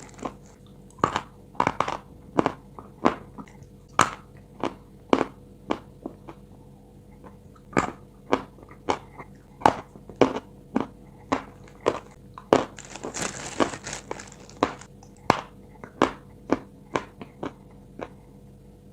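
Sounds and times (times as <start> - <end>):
chalk crunching while chewed: 0.0 - 6.4, 7.2 - 18.3.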